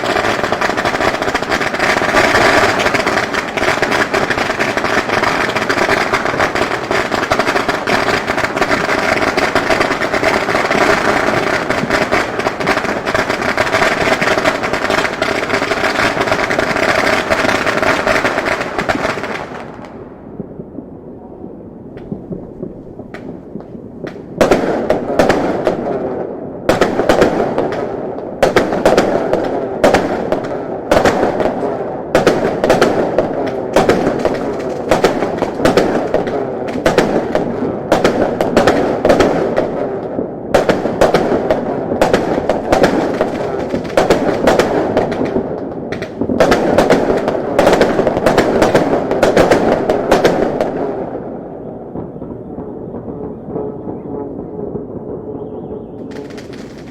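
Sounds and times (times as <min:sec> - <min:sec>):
fireworks crackling: 0:00.0 - 0:56.9
loud fireworks bangs: 0:00.0 - 0:56.9.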